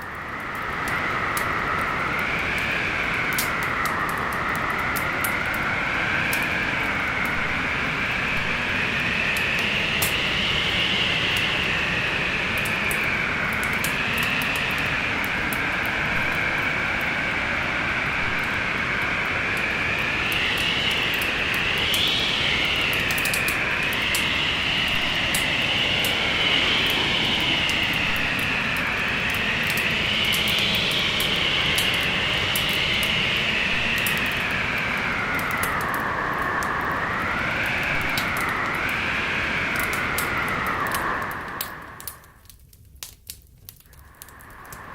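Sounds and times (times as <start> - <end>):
storm wind whistling: 0.0 - 42.6, 43.8 - 44.9
wood fire crackling: 0.0 - 44.9.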